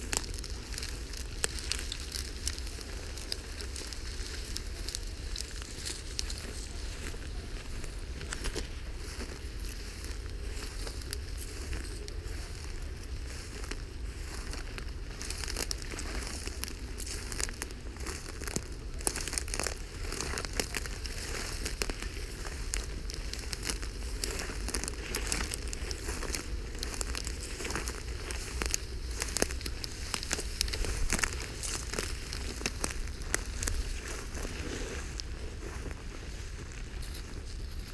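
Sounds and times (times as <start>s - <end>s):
dry grass rustling and crackling: 0.0s - 37.9s
steady low rumble: 0.0s - 37.9s.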